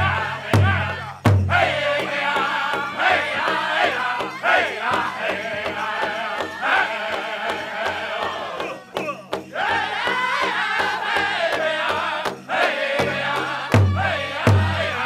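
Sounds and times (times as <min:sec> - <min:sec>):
big drum beating steadily: 0:00.0 - 0:15.0
group singing in high voices: 0:00.0 - 0:15.0.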